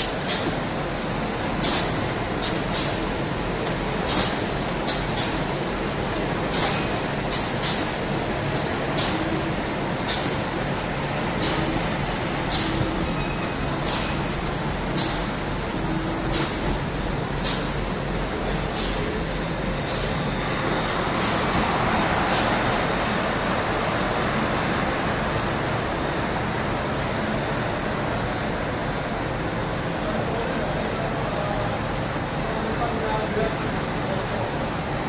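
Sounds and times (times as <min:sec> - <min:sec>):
wrapping machine running: 0:00.0 - 0:35.0.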